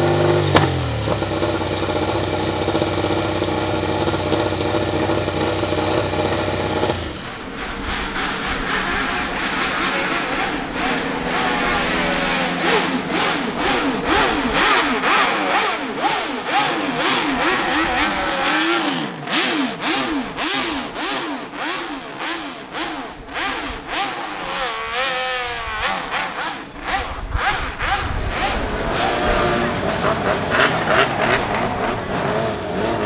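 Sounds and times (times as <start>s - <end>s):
racing motorcycle engine revving: 0.0s - 33.0s.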